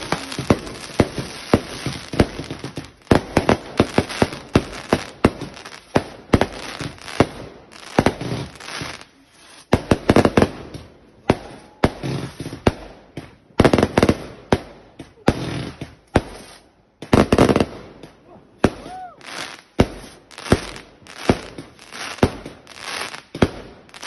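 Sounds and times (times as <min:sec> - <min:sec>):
fireworks barrage bangs: 0:00.0 - 0:24.0.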